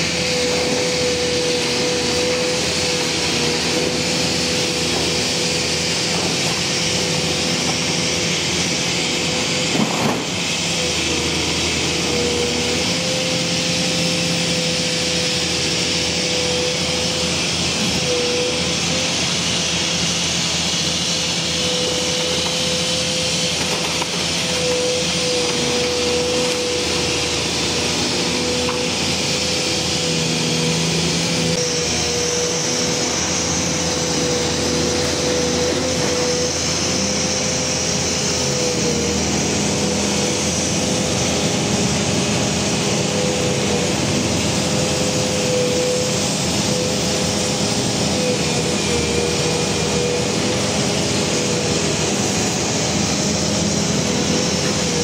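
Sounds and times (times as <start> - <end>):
excavator diesel engine and hydraulics: 0.0 - 55.0
steady whine: 0.0 - 55.0.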